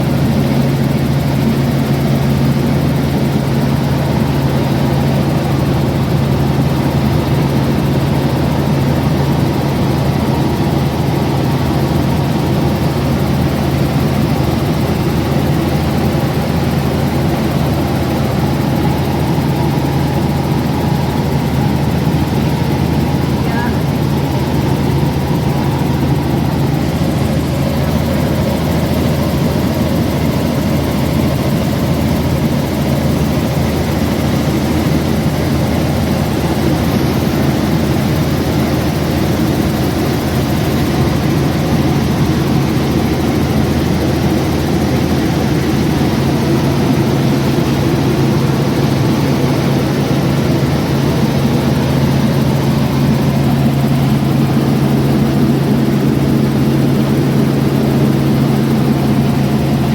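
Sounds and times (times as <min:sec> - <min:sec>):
aircraft engine running: 0:00.0 - 0:59.9.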